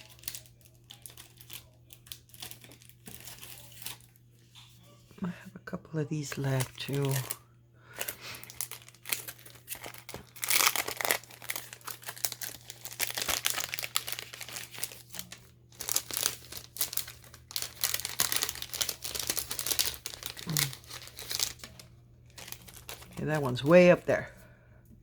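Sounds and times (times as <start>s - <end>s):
paper rustling and crinkling: 0.0s - 5.2s, 6.3s - 7.4s, 8.0s - 24.4s.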